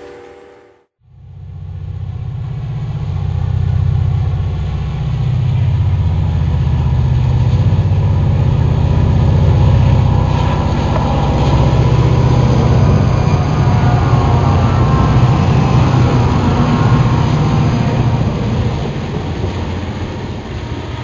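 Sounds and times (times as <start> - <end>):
model train engine rumble: 1.0 - 21.0.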